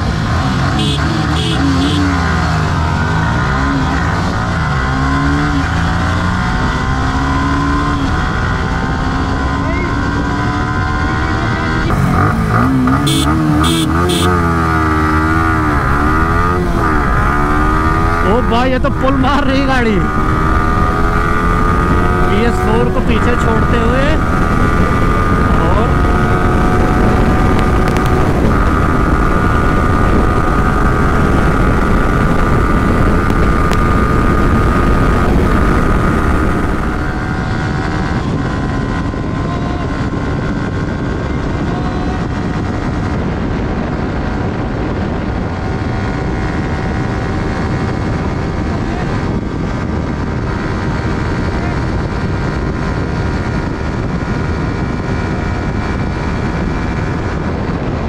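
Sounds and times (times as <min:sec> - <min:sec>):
motorcycle engine revving high: 0:00.0 - 0:58.0
wind rush: 0:00.0 - 0:58.0.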